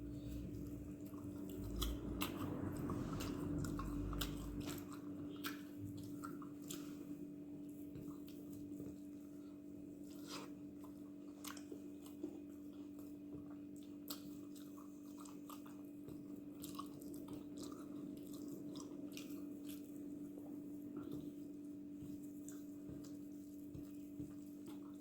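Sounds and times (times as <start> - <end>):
person chewing food: 0.0 - 25.0
steady low hum: 0.0 - 25.0.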